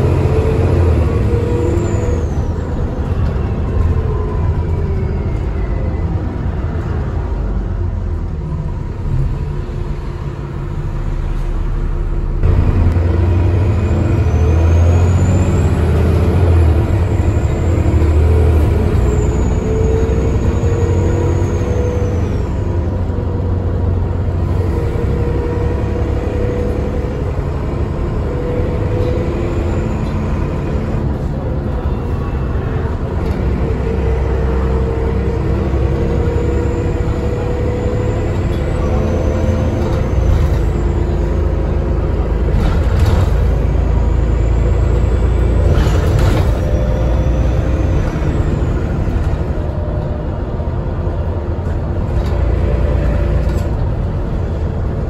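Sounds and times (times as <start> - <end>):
bus engine: 0.0 - 55.0.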